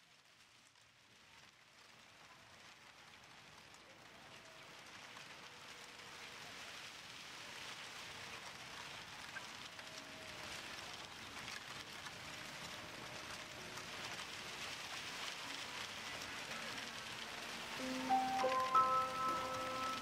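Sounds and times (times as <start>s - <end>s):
rain-like hiss with crackles: 0.0s - 20.0s.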